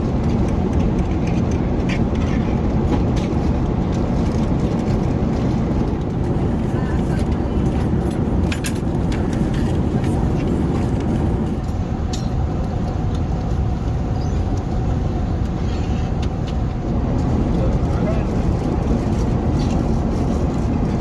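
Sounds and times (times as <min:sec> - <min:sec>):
airliner cabin engine and airflow rumble: 0:00.0 - 0:21.0.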